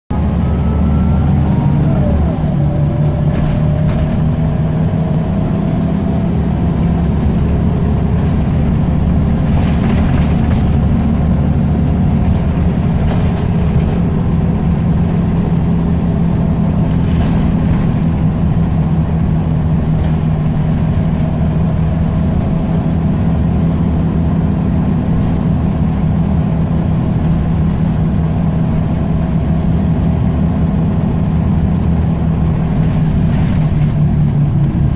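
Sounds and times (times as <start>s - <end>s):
bus engine running: 0.0s - 34.9s.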